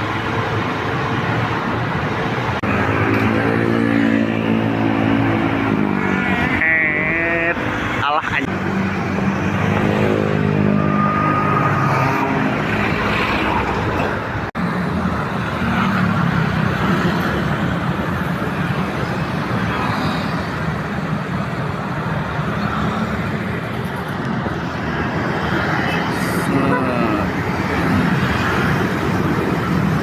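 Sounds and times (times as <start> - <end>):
passing vehicles: 0.0 - 30.0.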